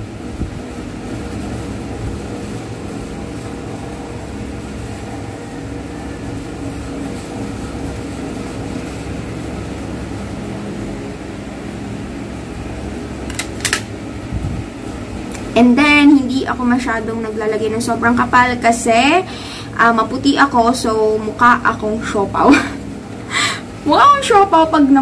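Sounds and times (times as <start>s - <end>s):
faint hum: 0.0s - 25.0s
low room rumble: 0.0s - 25.0s.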